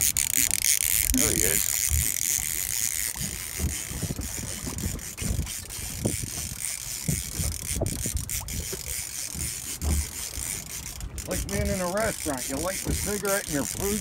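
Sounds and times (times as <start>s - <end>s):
fishing reel ratcheting: 0.0s - 14.0s.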